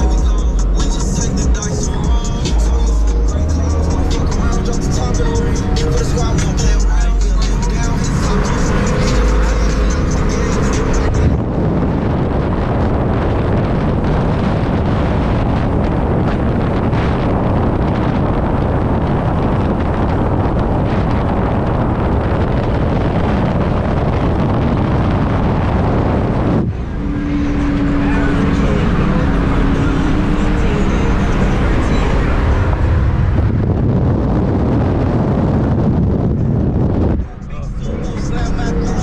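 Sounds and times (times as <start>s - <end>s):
car road noise: 0.0s - 39.0s
wind rushing over microphone: 0.0s - 39.0s.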